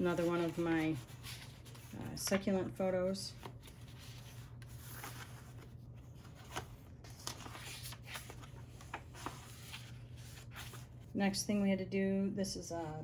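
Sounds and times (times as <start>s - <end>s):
paper pages rustling: 0.0s - 11.1s.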